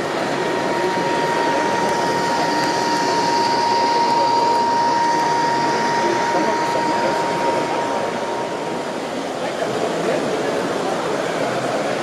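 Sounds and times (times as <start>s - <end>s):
crowd chatter: 0.0s - 12.0s
model train whining: 0.0s - 12.0s.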